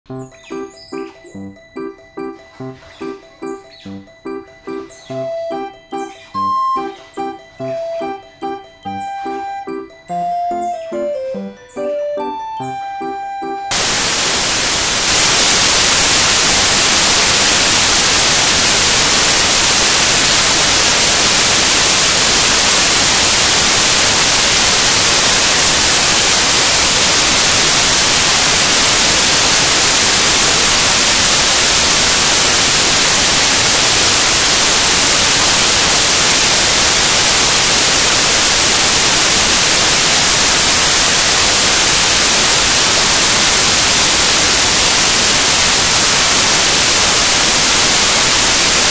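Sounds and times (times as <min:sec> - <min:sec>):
static-like hiss: 0:04.8 - 0:11.0, 0:11.6 - 0:48.9.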